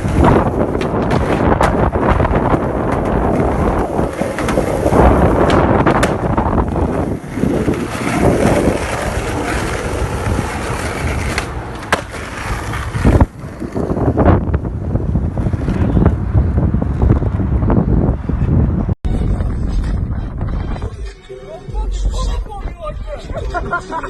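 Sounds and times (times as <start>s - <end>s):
wind on microphone: 0.0s - 11.6s, 12.5s - 23.7s
skateboard wheels rolling on pavement: 0.0s - 21.2s.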